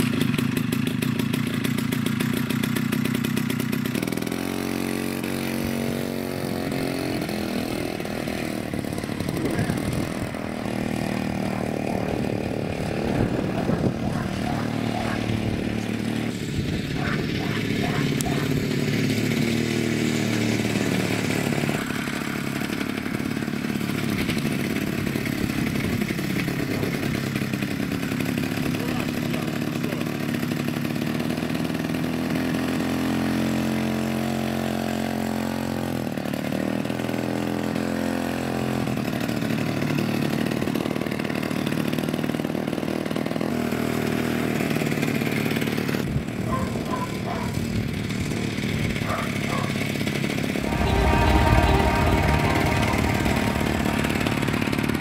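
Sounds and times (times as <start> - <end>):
two-stroke engine revving: 0.0 - 50.7.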